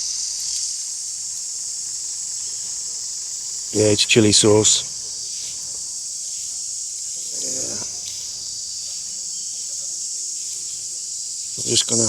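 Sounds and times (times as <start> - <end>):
insect chorus chirring: 0.0 - 12.0.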